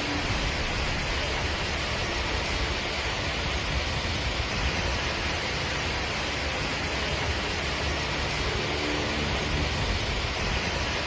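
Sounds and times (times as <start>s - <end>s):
heavy rain and wind rushing: 0.0s - 11.0s.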